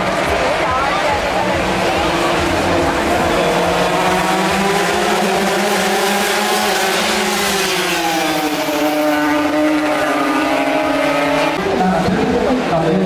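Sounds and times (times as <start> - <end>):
boat engines high-revving drone: 0.0 - 12.4.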